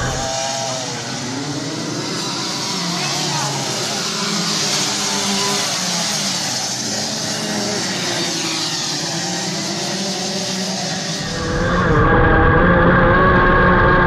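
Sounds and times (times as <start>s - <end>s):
kart engines droning: 0.0s - 14.0s.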